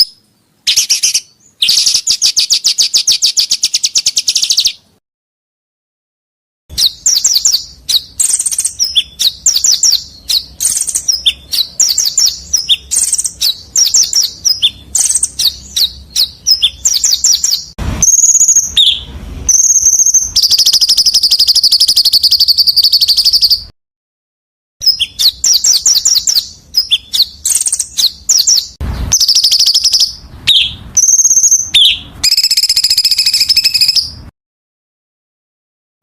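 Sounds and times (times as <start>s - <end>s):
whistled bird notes: 0.0s - 4.8s, 6.7s - 23.7s, 24.8s - 34.3s
songbirds chirping and trilling: 0.0s - 5.0s, 6.7s - 23.7s, 24.8s - 34.3s.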